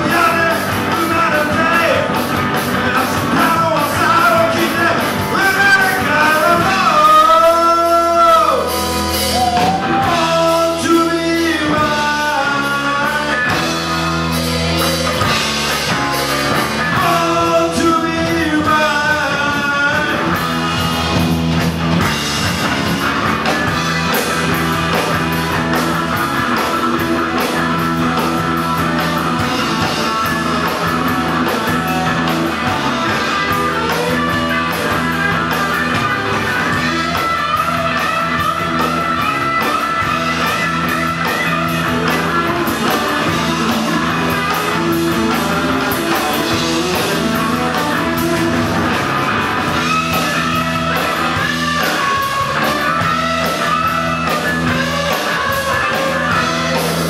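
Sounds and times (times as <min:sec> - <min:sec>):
bass notes: 0:00.0 - 0:57.0
bending lead guitar: 0:00.0 - 0:57.0
drums: 0:00.0 - 0:57.0.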